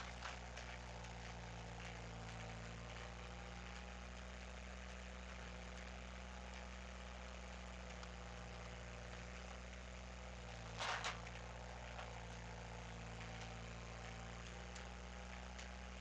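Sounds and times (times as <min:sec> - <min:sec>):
skid steer engine running: 0:00.0 - 0:16.0.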